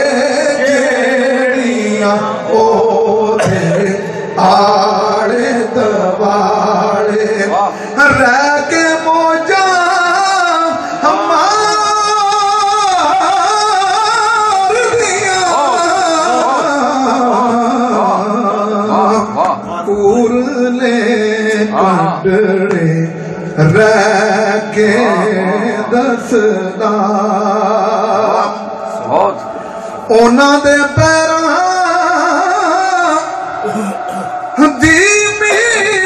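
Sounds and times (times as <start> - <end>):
man singing devotional melody: 0.0 - 29.3, 30.1 - 36.0.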